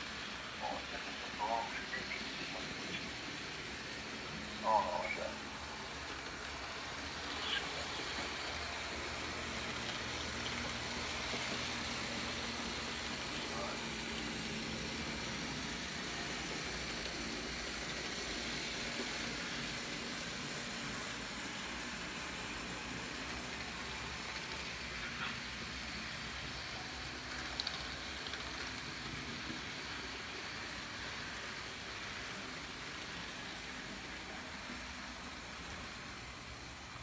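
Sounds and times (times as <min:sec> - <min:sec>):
model trains whirring on track: 0:00.0 - 0:37.0.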